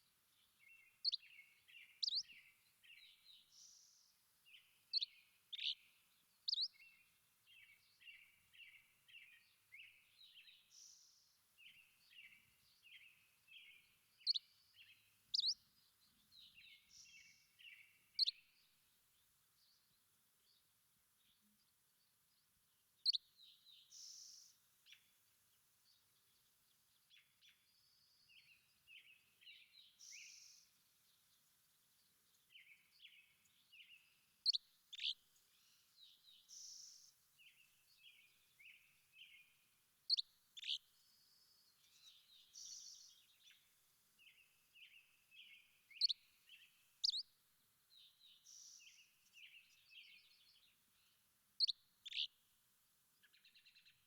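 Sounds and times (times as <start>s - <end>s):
birds singing: 0.3s - 18.7s, 23.0s - 25.1s, 25.8s - 31.4s, 32.0s - 47.3s, 47.9s - 52.4s.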